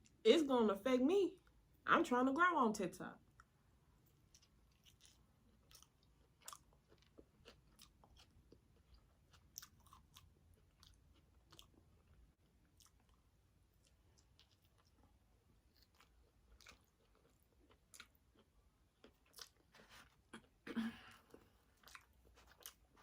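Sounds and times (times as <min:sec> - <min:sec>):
person chewing: 0:03.3 - 0:23.0.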